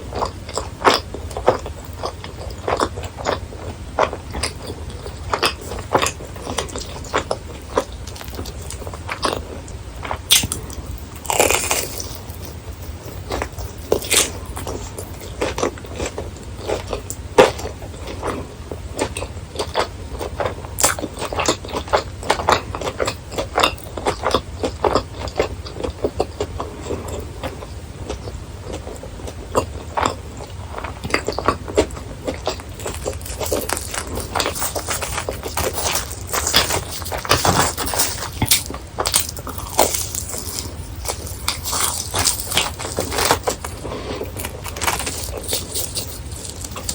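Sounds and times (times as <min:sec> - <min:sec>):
crunchy snack chewing: 0:04.0 - 0:18.4, 0:19.0 - 0:46.9.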